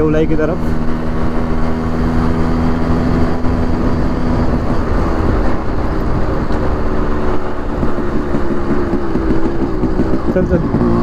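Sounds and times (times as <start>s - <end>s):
motorcycle engine running: 0.0s - 11.0s
wind rumble on microphone: 0.0s - 11.0s.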